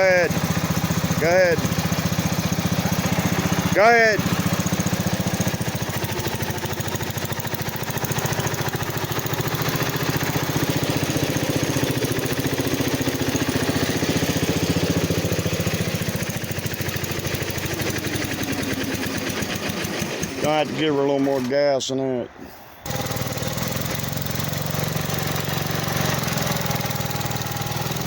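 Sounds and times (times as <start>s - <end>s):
small engine running: 0.0s - 21.8s, 22.5s - 28.0s.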